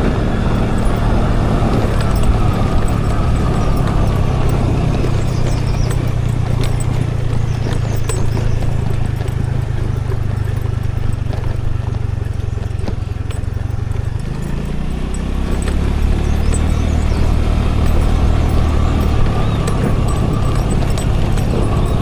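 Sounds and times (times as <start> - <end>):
scooter engine running: 0.0 - 22.0
sharp clicks and rattles: 0.0 - 22.0.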